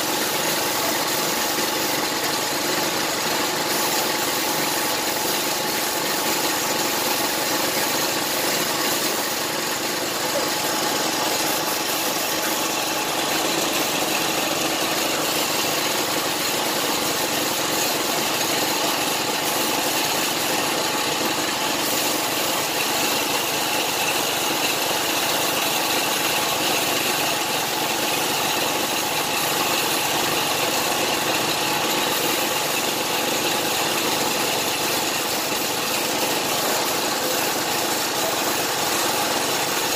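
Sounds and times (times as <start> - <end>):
air compressor running: 0.0 - 39.9
spray gun hissing: 0.0 - 39.9.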